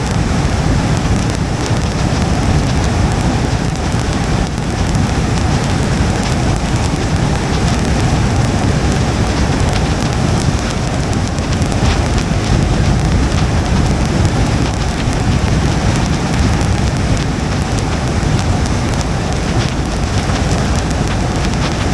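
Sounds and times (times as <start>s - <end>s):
rain falling on a car: 0.0s - 21.9s
tyres rumbling on wet road: 0.0s - 21.9s.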